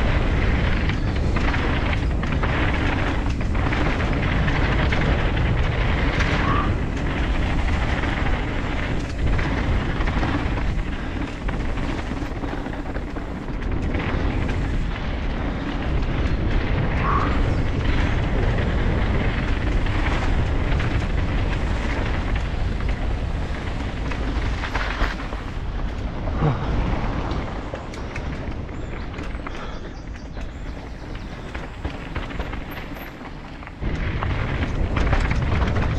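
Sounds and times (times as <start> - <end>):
bike knocks and rattles: 0.0 - 35.9
tyre noise on dirt and gravel: 0.0 - 35.9
wind rumble on microphone: 0.0 - 35.9.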